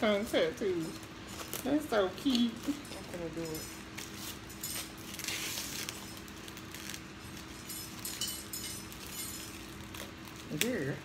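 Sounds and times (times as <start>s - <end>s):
plastic film crinkling: 0.5s - 11.0s.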